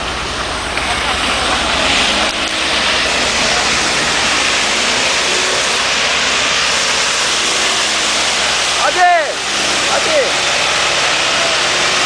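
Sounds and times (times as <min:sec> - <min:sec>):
loud steady rushing noise: 0:00.0 - 0:12.0
off-road vehicle engine running hard: 0:00.0 - 0:12.0.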